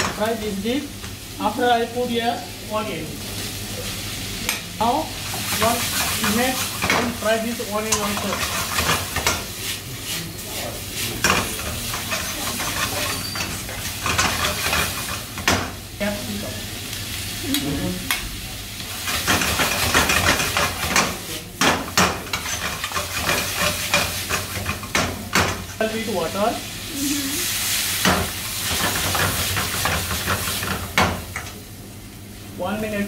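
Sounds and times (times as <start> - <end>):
food sizzling in a wok: 0.0 - 33.0.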